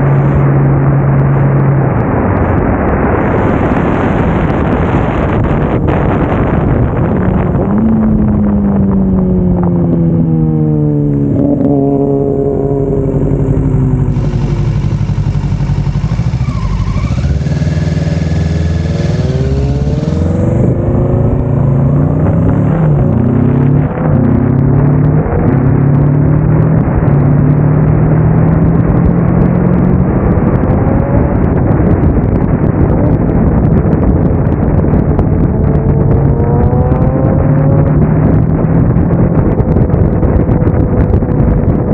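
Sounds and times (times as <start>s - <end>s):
motorcycle engine while riding: 0.0s - 41.9s.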